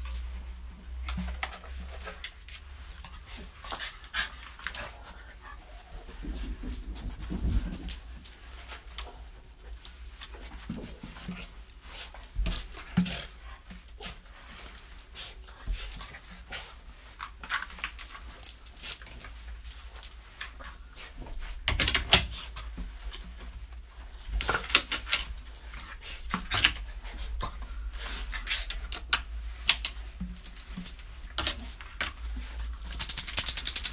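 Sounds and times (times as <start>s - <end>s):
collar tag jingling: 0.0s - 0.5s, 2.8s - 5.5s, 6.1s - 28.9s, 30.2s - 33.9s.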